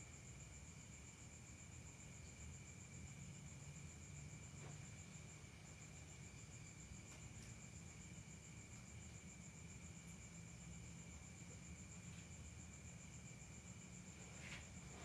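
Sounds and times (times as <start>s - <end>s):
crickets trilling: 0.0s - 15.0s
low background hum: 0.0s - 15.0s.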